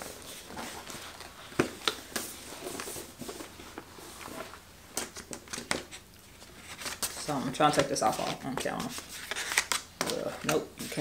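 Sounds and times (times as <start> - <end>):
paper and cardboard rustling: 0.0 - 11.0.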